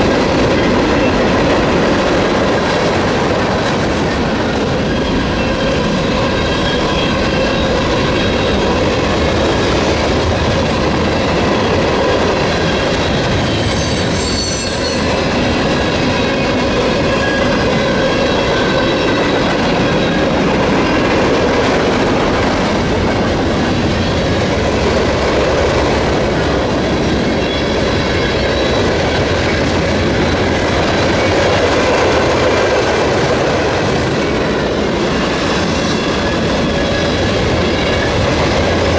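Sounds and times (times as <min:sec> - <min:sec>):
freight train wheels rumbling on rails: 0:00.0 - 0:38.9
train wheels clickety-clack: 0:00.0 - 0:38.9
wheels squealing: 0:04.1 - 0:38.9.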